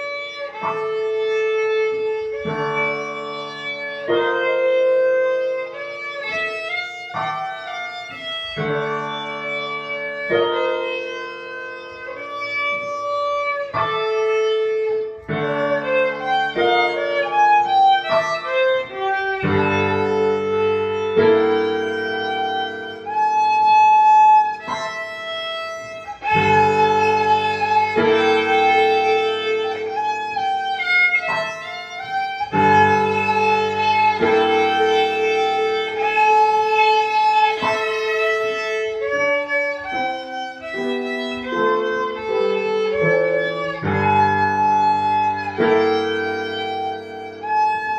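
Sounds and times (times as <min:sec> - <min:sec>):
violin melody: 0:00.0 - 0:47.9.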